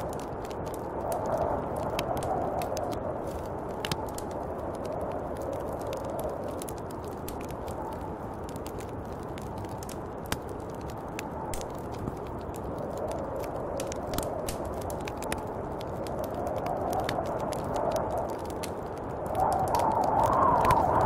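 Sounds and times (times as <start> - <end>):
light clicks and ticks: 0.0 - 21.0
snowstorm wind blowing: 0.0 - 21.0.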